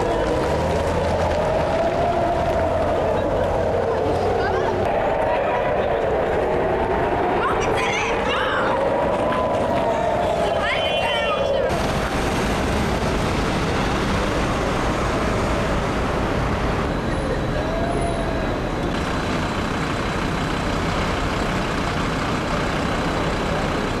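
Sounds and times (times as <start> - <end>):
street traffic roar: 0.0 - 24.0.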